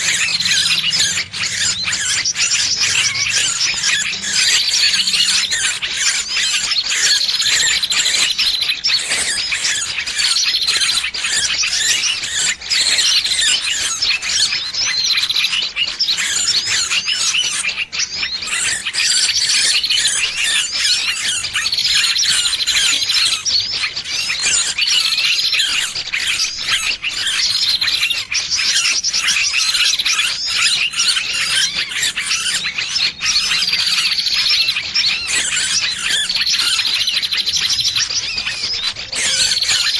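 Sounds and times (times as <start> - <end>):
small bird distress squeals: 0.0 - 39.9
small birds chirping: 0.0 - 39.9.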